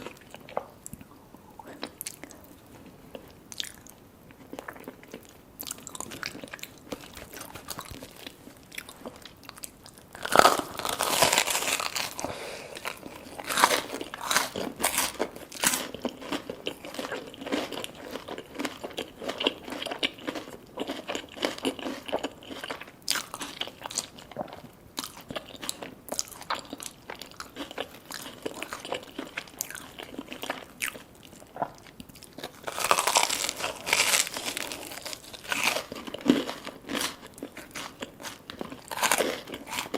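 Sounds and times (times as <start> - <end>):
crunching bites into fried food: 4.6 - 31.1, 32.3 - 39.9.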